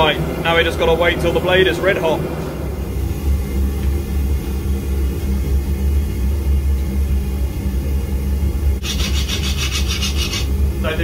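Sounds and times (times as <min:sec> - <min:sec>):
gas forge burner rumbling: 0:00.0 - 0:11.0.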